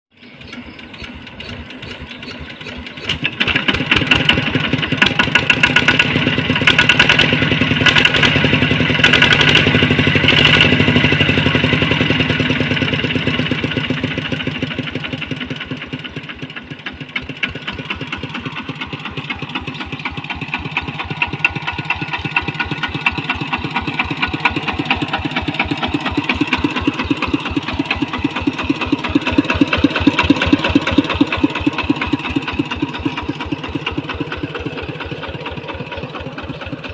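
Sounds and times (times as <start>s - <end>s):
diesel engine idling: 0.2s - 36.9s.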